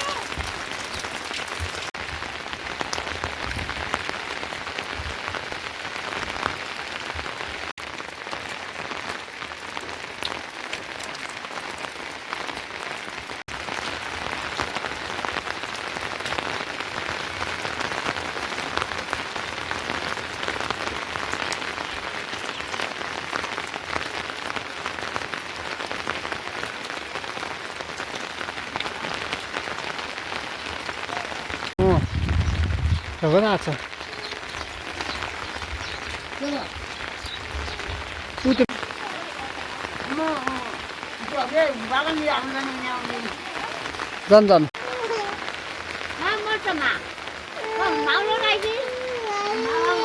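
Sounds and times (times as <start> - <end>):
steady rain patter: 0.0 - 50.0.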